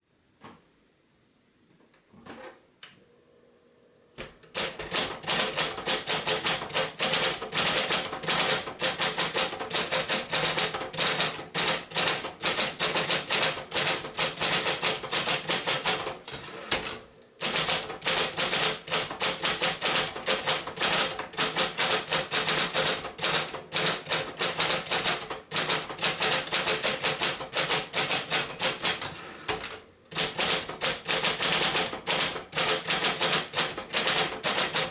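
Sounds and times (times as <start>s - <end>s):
typewriter keystrokes: 4.4s - 34.9s
typewriter motor hum: 4.5s - 34.9s.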